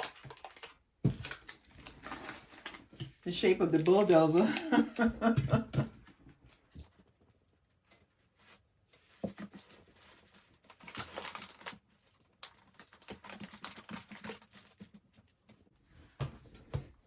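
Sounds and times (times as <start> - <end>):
crinkling rustle: 0.0 - 5.1, 6.0 - 15.8.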